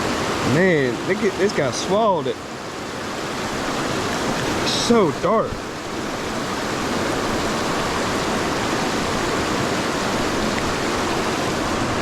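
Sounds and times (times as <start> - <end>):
creek water rushing over rapids: 0.0 - 12.0.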